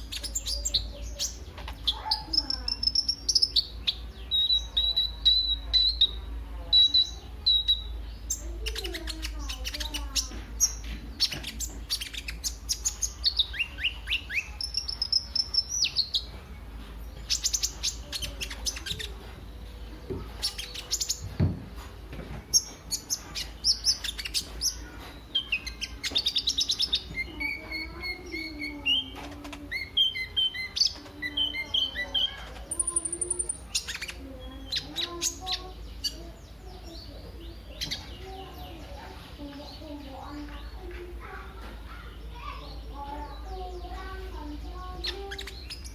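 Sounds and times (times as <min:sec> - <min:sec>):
bird singing fast varied song: 0:00.0 - 0:16.4, 0:22.5 - 0:40.9, 0:42.0 - 0:45.9.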